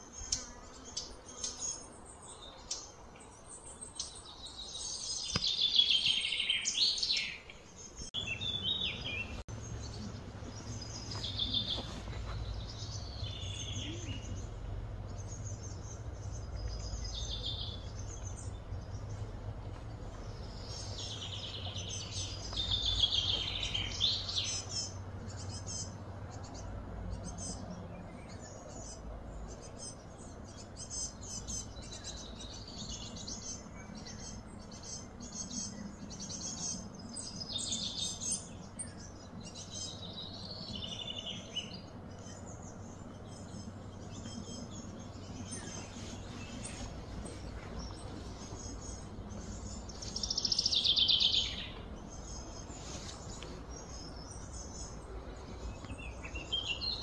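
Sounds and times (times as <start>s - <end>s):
birds chirping: 0.0s - 57.0s
low background rumble: 7.8s - 57.0s.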